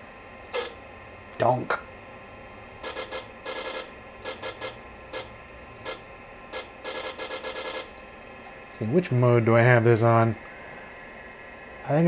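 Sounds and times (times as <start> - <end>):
computer humming: 0.0 - 12.0.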